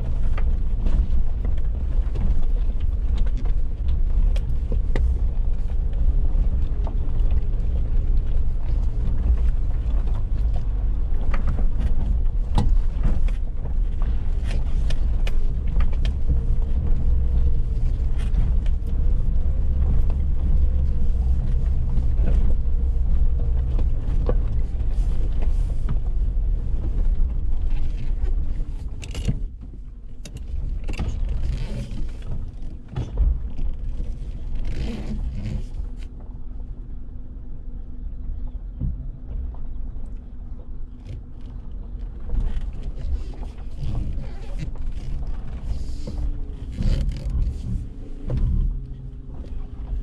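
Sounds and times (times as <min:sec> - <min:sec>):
car engine rumbling: 0:00.0 - 0:50.0.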